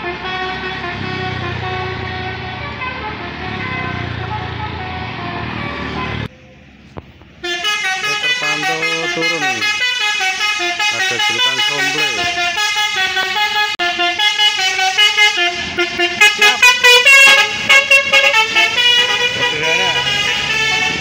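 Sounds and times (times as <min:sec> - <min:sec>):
multi-tone bus horn tune: 0:00.0 - 0:06.3, 0:07.4 - 0:21.0.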